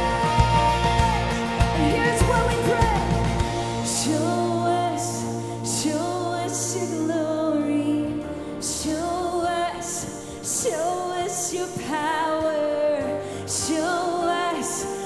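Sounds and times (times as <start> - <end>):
band playing worship music: 0.0 - 15.0
woman singing: 0.0 - 15.0.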